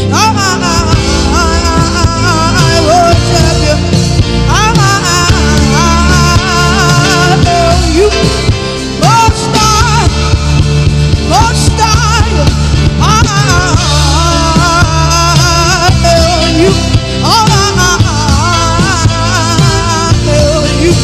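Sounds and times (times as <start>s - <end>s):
gospel band playing: 0.0s - 21.0s.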